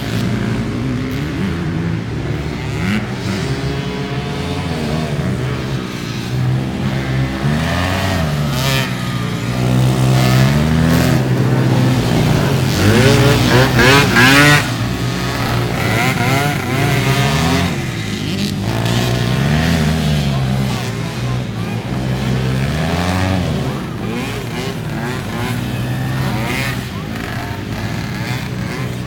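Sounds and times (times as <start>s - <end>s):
atv engines revving: 0.0s - 29.0s.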